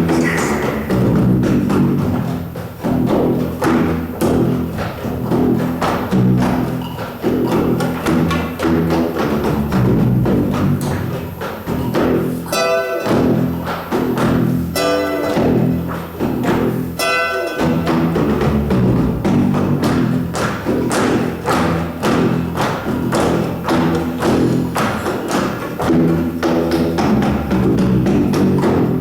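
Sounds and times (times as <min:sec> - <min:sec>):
music with low tones and percussion: 0:00.0 - 0:29.0.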